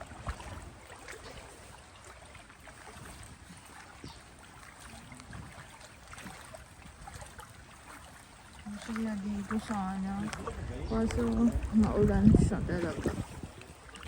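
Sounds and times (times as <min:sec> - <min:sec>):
creek water rushing: 0:00.0 - 0:14.0
splashes from wading: 0:00.0 - 0:14.0.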